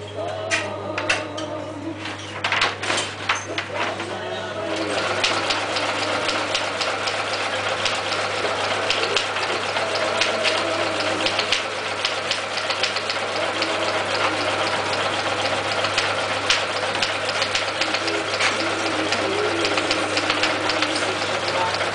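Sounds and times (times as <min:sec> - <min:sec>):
sewing machine motor hum: 0:02.4 - 0:21.9.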